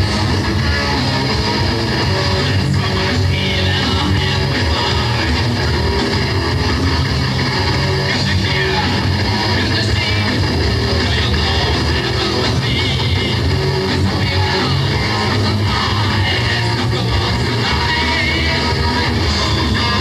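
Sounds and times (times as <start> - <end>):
drums: 0.0 - 20.0
electric guitars: 0.0 - 20.0.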